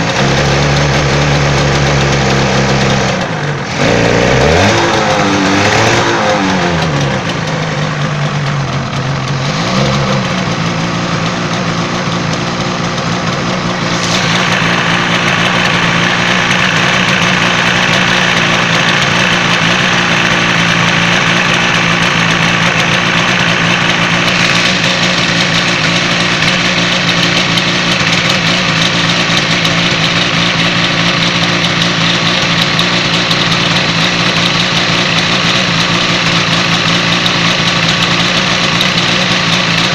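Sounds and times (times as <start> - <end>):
two-stroke engine revving and idling: 0.0 - 39.9.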